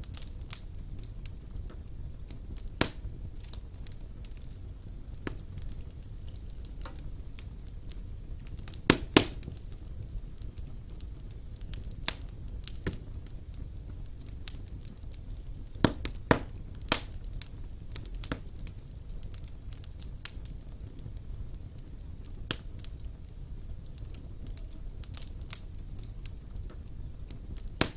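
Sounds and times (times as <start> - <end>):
loud fire snaps: 0.0 - 27.9
wood fire crackling: 0.0 - 27.9.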